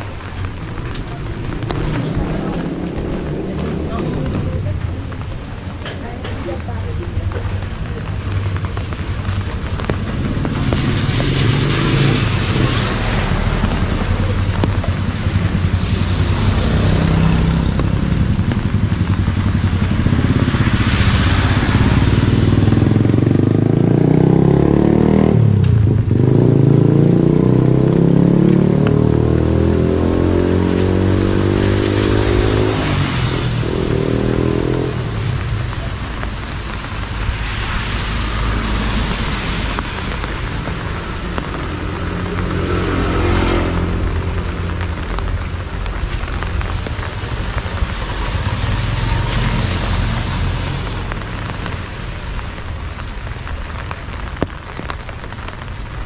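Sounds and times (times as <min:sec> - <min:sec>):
scooter engines passing: 0:00.0 - 0:55.6
car engines passing: 0:00.0 - 0:56.0.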